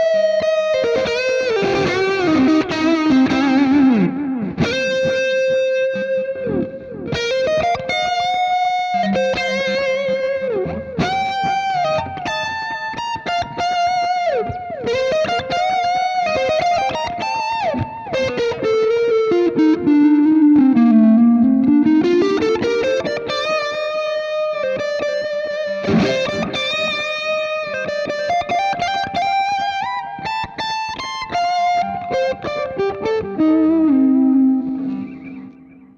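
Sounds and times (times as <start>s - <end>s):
electric guitar lead melody: 0.0s - 35.9s.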